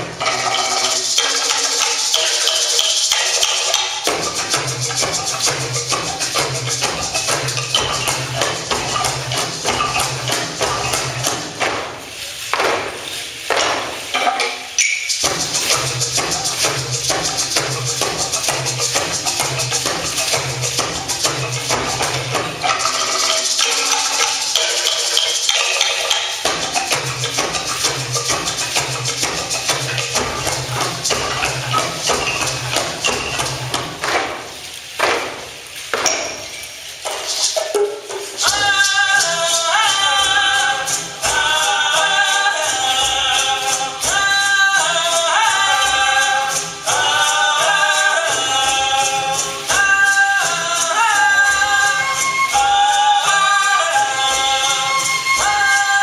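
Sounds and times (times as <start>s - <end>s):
rhythmic percussion taps and thumps: 0.0s - 56.0s
footwork stamping on stage: 2.1s - 14.2s, 15.2s - 56.0s.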